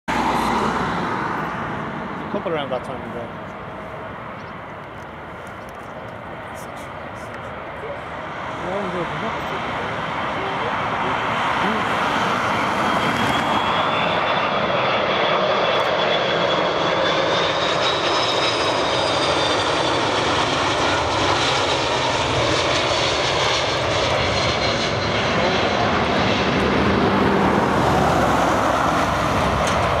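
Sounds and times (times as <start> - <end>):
jet airliner roar with fan whine: 0.1 - 30.0.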